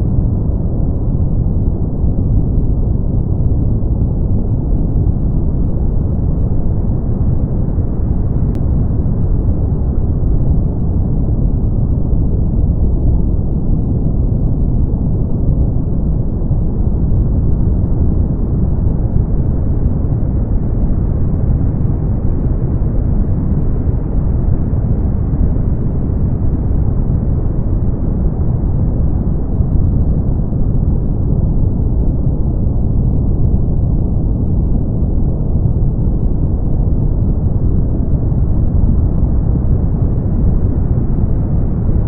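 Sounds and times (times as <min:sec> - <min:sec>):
brown noise: 0:00.0 - 0:42.0.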